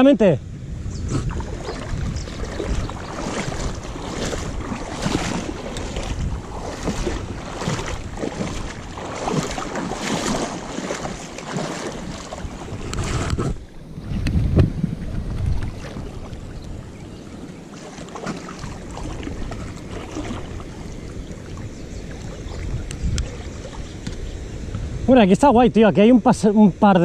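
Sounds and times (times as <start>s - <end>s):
wind rumbling on microphone: 0.0s - 26.9s
legs wading through water: 1.0s - 24.9s.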